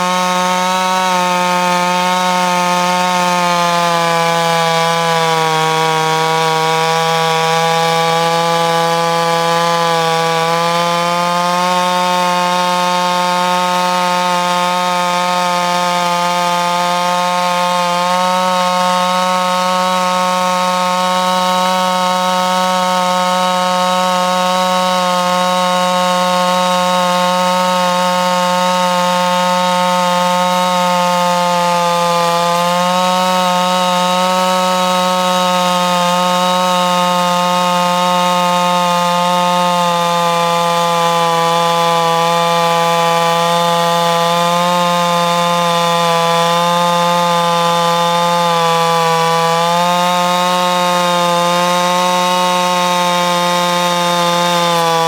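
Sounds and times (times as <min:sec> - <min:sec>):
chainsaw cutting log at full throttle: 0:00.0 - 0:55.0.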